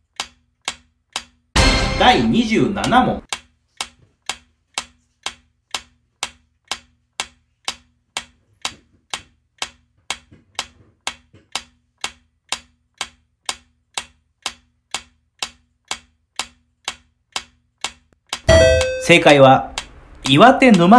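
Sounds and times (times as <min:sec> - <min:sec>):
clock-like timer ticking: 0:00.0 - 0:20.9.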